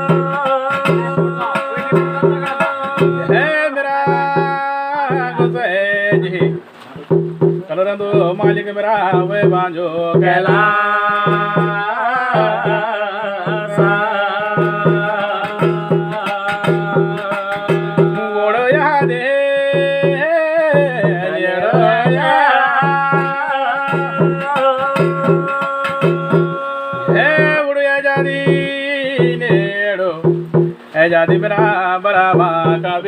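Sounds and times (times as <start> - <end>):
drum steady beat: 0.0 - 33.0.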